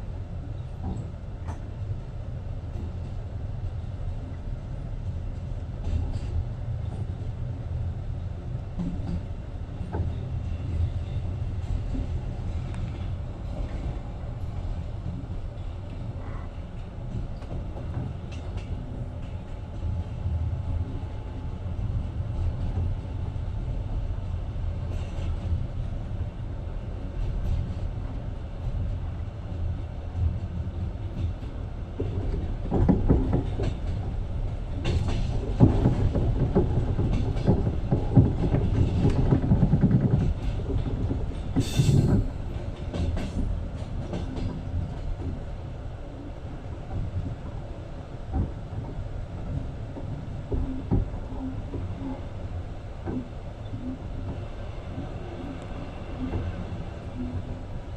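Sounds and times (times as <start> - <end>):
train rumble inside carriage: 0.0 - 57.9.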